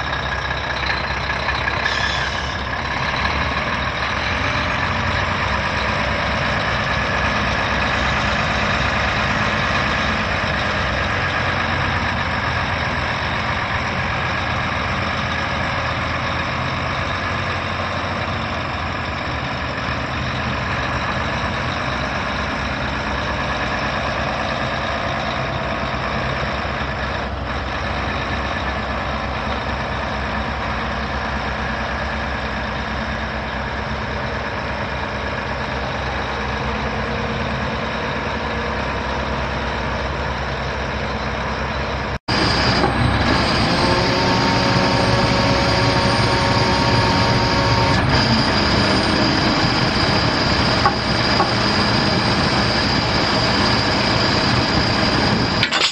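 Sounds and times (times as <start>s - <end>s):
diesel truck engine idling: 0.0s - 55.6s.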